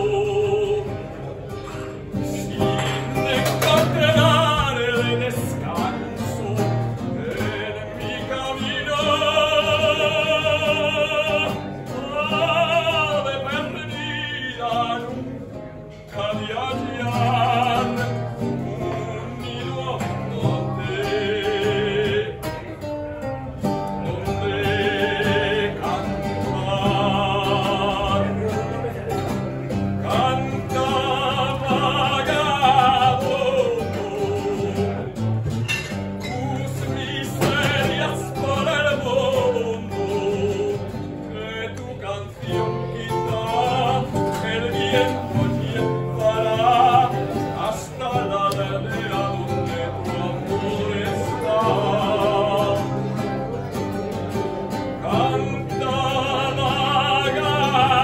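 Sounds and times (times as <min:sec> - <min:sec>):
man singing operatically: 0:00.0 - 0:22.9, 0:23.5 - 0:35.3, 0:36.2 - 0:58.0
acoustic guitar: 0:00.0 - 0:58.0.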